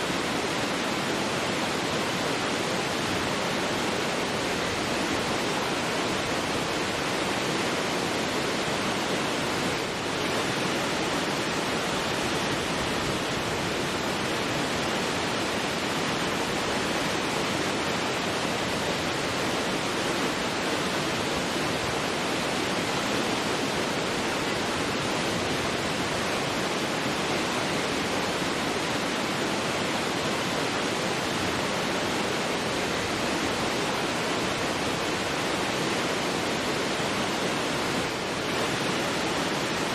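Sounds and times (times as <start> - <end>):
large waterfall rushing: 0.0 - 39.9.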